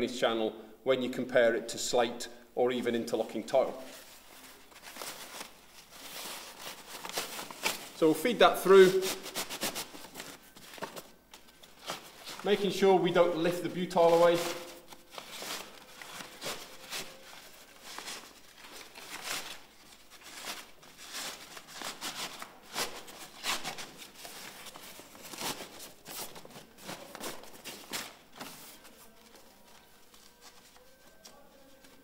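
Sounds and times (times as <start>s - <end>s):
roofing membrane rustling and crinkling: 2.9s - 12.9s, 13.5s - 32.0s.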